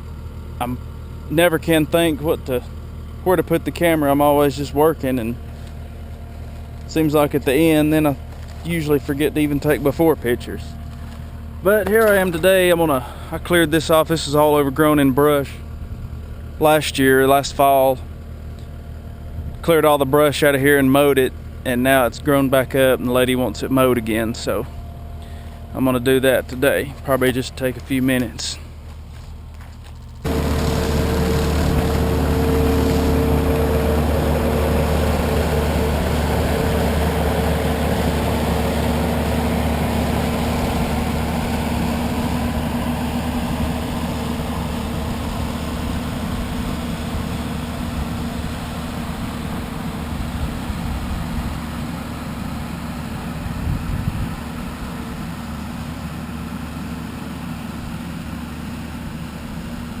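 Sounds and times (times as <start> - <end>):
brush mower working: 0.0 - 20.4, 21.0 - 60.0
skid steer engine running: 0.0 - 60.0.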